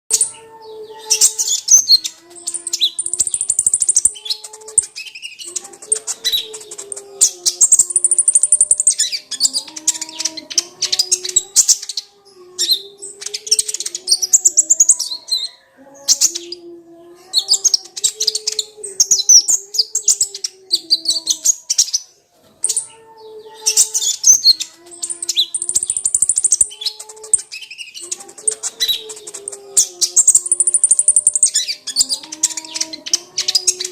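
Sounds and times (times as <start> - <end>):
bird twittering song: 0.1 - 33.9.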